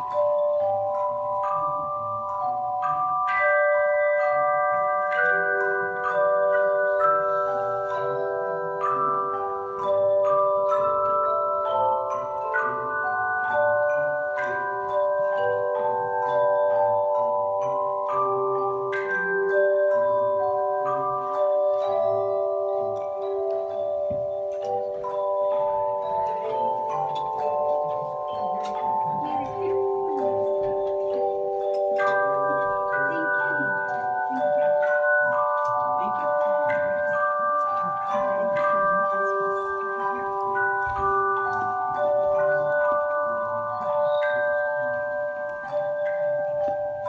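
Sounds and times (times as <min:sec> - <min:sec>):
handbell choir playing: 0:00.0 - 0:47.0.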